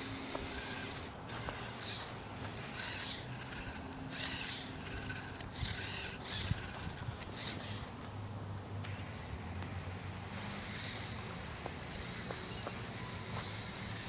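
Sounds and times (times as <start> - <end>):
faint motor and gear hum: 0.0 - 14.0.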